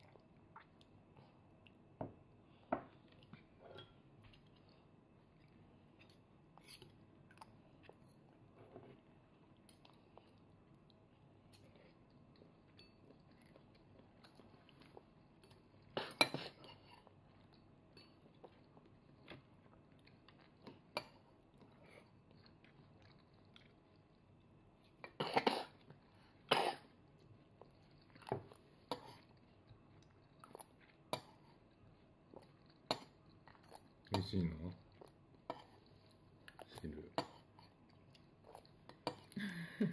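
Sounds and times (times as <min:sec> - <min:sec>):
soft chewing: 0:00.0 - 0:39.9.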